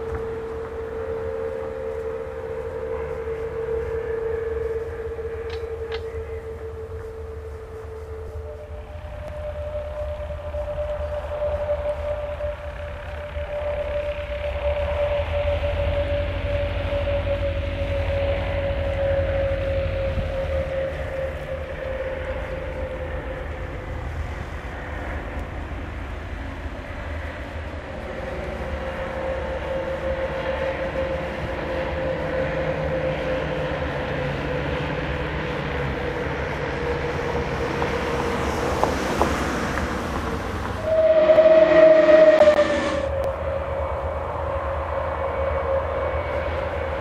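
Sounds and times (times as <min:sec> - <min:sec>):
propeller aircraft engines droning: 0:00.0 - 0:47.0.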